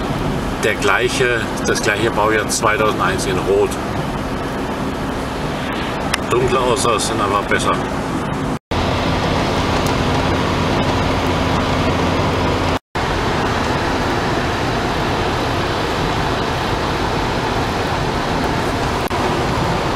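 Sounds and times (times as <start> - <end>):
car engine hum: 0.0 - 19.9.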